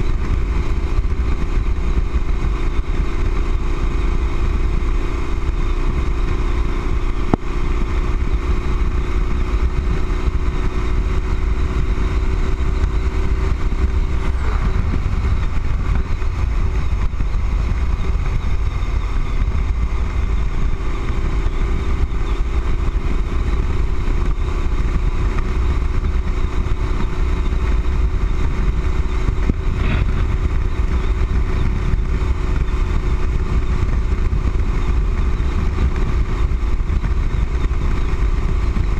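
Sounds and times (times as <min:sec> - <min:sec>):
motorcycle engine drone: 0:00.0 - 0:38.9
wind rumble on microphone: 0:00.0 - 0:38.9.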